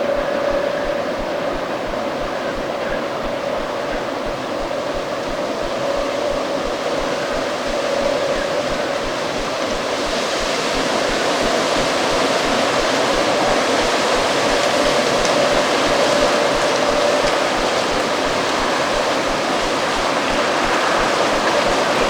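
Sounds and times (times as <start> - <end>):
low wavering whistle: 0.0 - 22.0.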